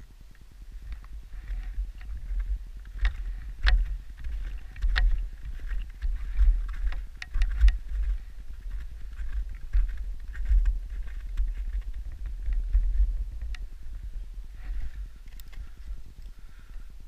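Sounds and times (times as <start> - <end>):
wind buffeting microphone: 0.6 - 17.0.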